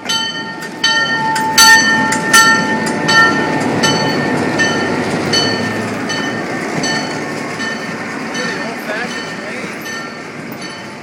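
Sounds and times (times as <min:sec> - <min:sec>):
bell ringing: 0:00.0 - 0:11.0
train wheels rumbling: 0:00.0 - 0:11.0.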